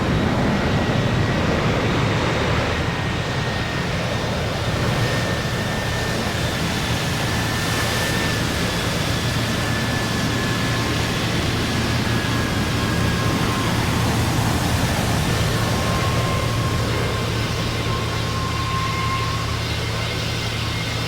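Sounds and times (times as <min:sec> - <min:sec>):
high engine whine: 0:00.0 - 0:21.0
jet airliner engines roaring: 0:00.0 - 0:21.0.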